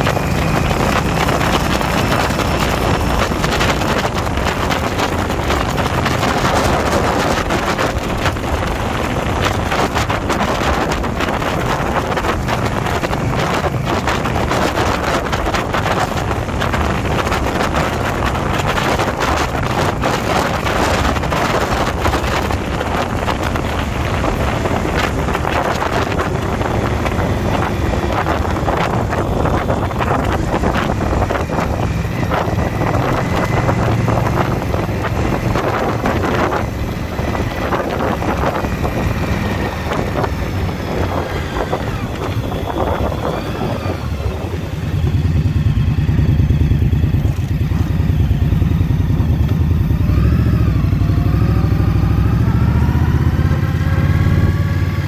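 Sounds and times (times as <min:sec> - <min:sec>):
motorcycle engine running: 0:00.0 - 0:55.0
wind buffeting the microphone: 0:00.0 - 0:55.0.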